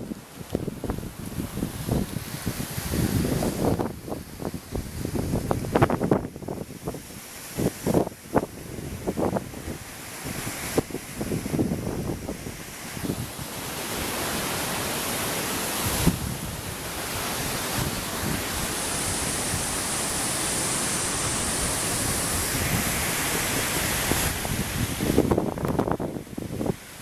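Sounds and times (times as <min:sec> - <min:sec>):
wind rushing: 0:00.0 - 0:14.6, 0:15.7 - 0:26.8
wind buffeting on microphone: 0:00.0 - 0:27.0.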